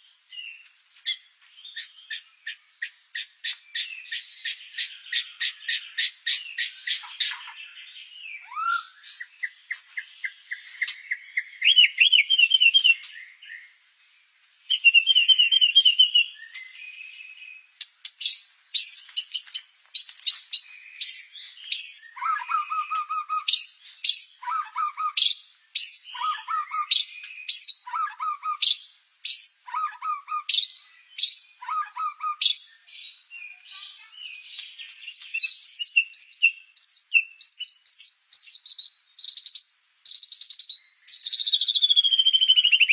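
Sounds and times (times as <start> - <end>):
songbird singing trills and whistles: 0.0 - 13.8, 14.6 - 42.9.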